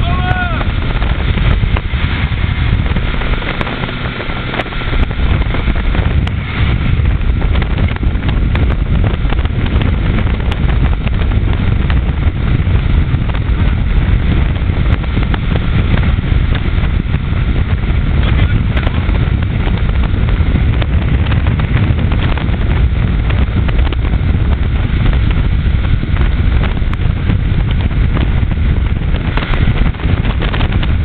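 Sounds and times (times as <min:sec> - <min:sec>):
motorboat running at speed: 0:00.0 - 0:31.0
wind buffeting microphone: 0:00.0 - 0:31.0.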